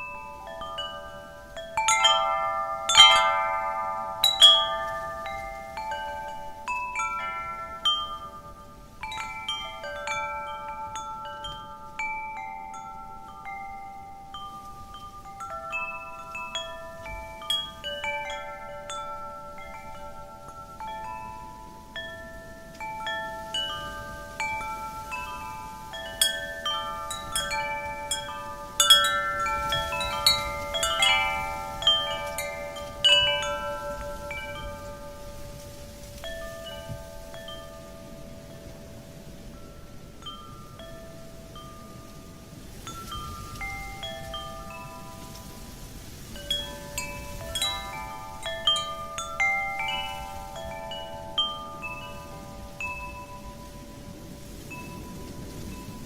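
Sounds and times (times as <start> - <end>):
wind chimes tinkling: 0.0 - 56.0.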